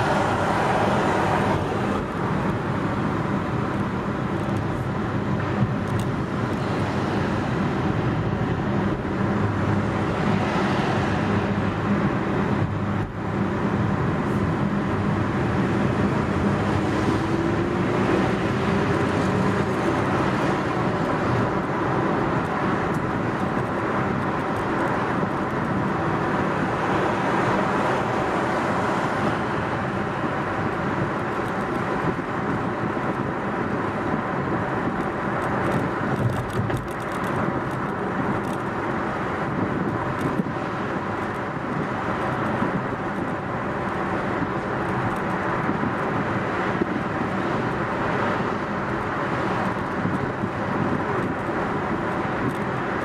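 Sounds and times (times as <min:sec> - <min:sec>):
car driving: 0:00.0 - 0:53.0.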